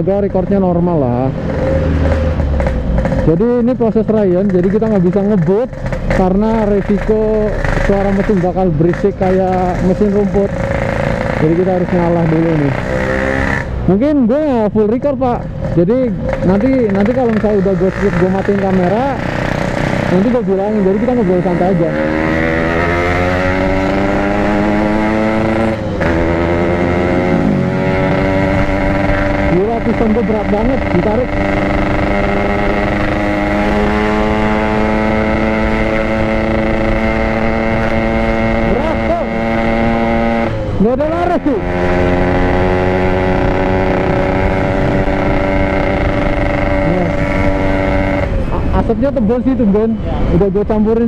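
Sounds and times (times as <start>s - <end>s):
two-stroke motorcycle engine running: 0.0s - 51.0s.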